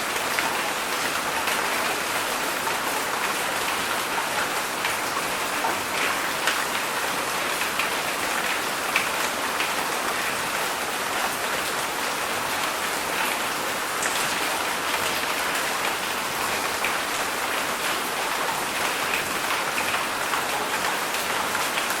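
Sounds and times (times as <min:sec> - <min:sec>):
heavy rain falling: 0:00.0 - 0:22.0
raindrops ticking on a surface: 0:00.0 - 0:22.0.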